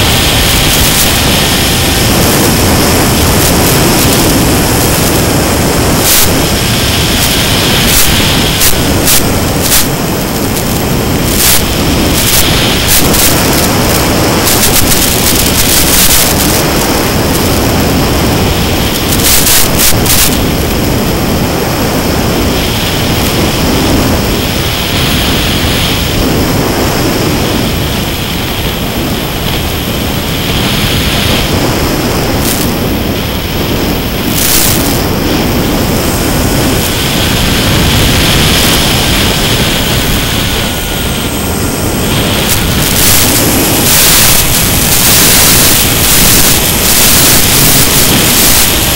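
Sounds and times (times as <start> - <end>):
electric motor and propeller: 0.0 - 48.9
radio interference crackles: 0.0 - 48.9
rush of airflow: 0.0 - 48.9.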